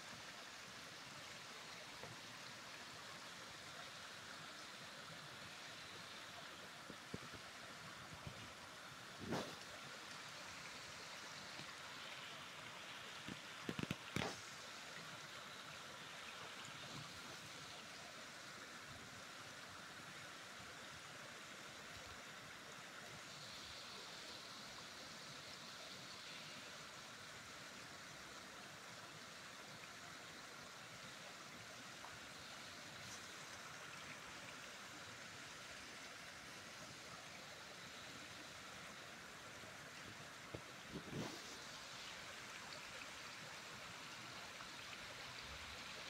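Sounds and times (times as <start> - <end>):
water running over stone steps: 0.0 - 21.2, 28.8 - 46.0.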